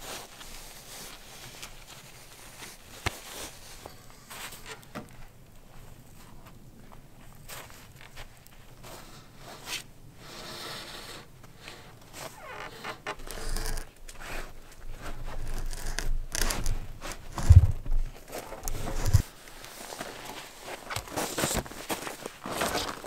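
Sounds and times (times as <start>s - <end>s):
rustling and scraping: 0.0s - 23.0s.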